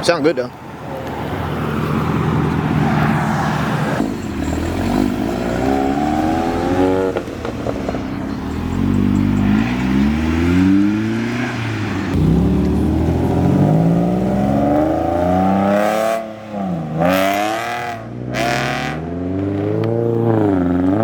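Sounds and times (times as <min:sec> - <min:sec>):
car engine accelerating: 0:01.5 - 0:21.0.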